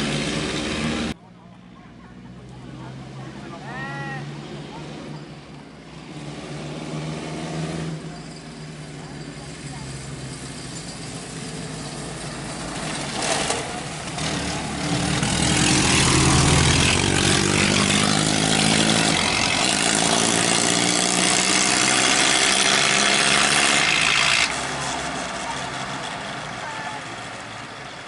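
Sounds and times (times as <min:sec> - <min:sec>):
racing car engines: 0:00.0 - 0:28.0.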